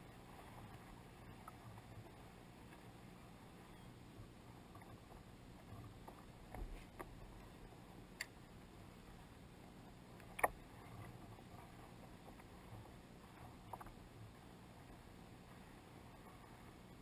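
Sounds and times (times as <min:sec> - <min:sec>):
small waves lapping against hull: 0:00.0 - 0:17.0.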